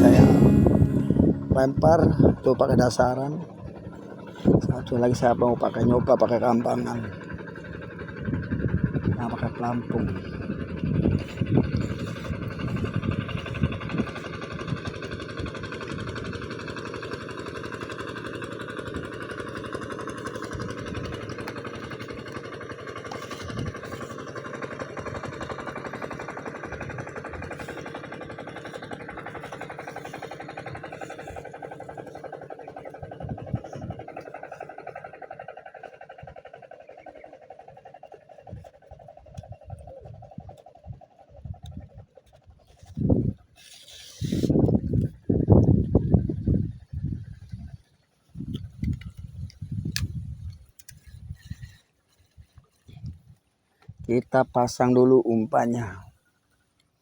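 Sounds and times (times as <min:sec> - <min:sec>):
engine running with rapid pulse: 0:00.0 - 0:57.0.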